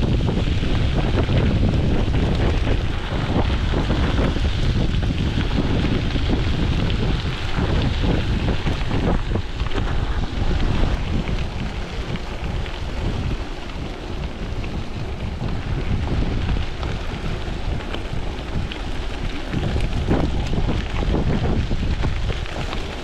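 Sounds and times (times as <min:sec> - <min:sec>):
tyres crunching over gravel: 0:00.0 - 0:23.0
wind buffeting microphone: 0:00.0 - 0:23.0.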